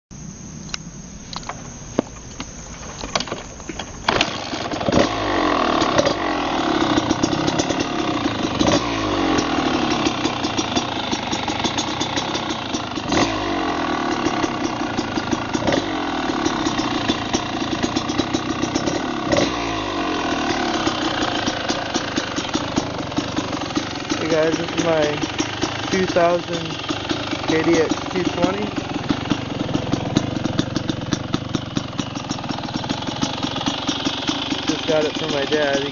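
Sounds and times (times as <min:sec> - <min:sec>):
dirt bike engine idling: 0:00.2 - 0:35.9.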